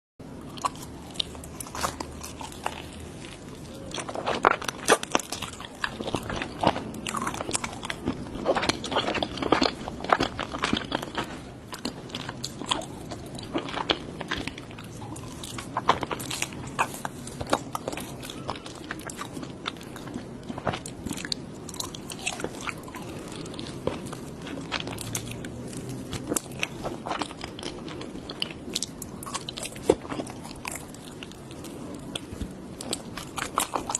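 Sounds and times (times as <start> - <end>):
crunchy food chewing: 0.3 - 33.9.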